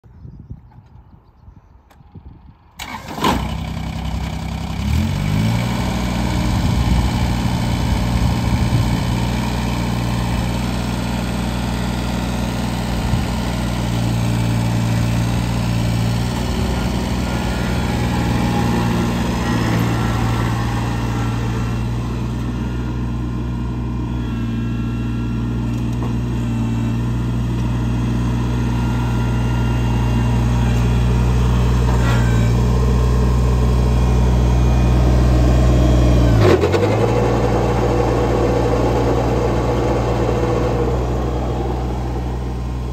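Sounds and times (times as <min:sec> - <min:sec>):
diesel engine cranking and idling: 0:02.7 - 0:42.9.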